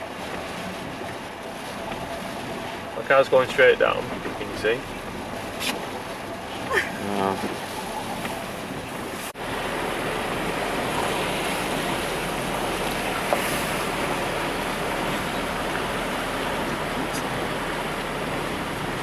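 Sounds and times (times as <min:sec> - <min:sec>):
car driving through floodwater: 0:00.0 - 0:19.0.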